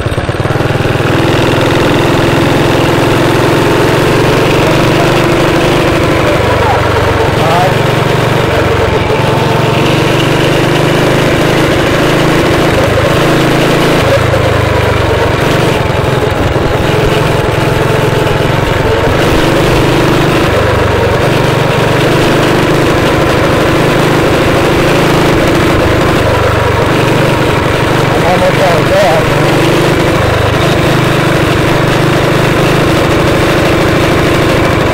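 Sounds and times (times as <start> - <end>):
motorized bicycle engine running: 0.0 - 34.9.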